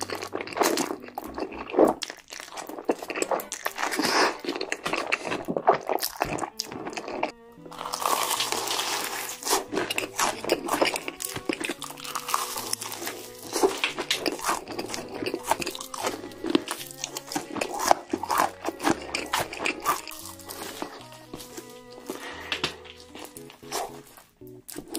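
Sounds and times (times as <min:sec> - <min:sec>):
crunching bites of fried chicken: 0:00.0 - 0:24.9
soft background music: 0:00.0 - 0:24.9.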